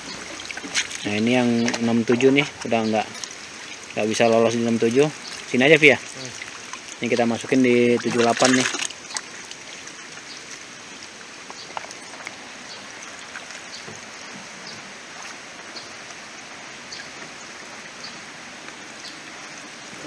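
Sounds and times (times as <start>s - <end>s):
water drips and splashes: 0.0s - 20.0s
water trickling: 0.0s - 20.0s.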